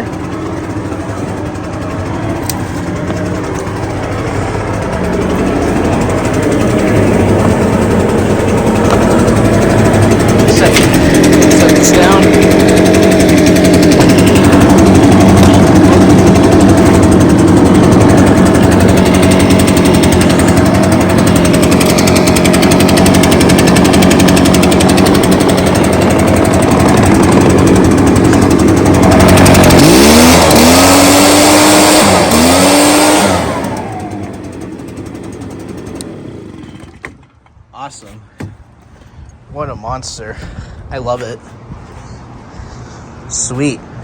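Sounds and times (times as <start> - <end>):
leaf blower engine running: 0.0 - 44.0.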